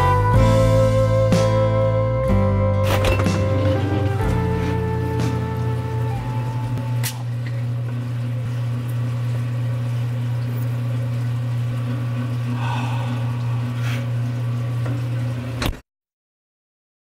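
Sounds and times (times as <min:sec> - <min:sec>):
fridge compressor humming: 0:00.0 - 0:15.8.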